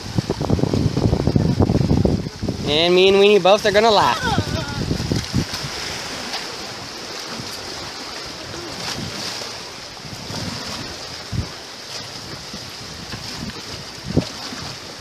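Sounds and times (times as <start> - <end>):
sea surf on rocks: 0.0 - 15.0
wind on microphone: 0.0 - 15.0.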